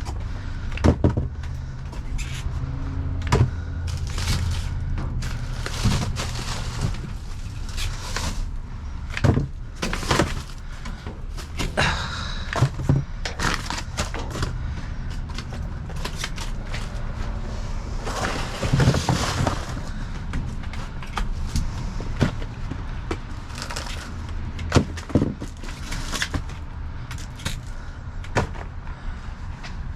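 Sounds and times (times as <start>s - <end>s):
rummaging knocks and clatters: 0.0s - 28.8s
steady low rumble: 0.0s - 29.9s.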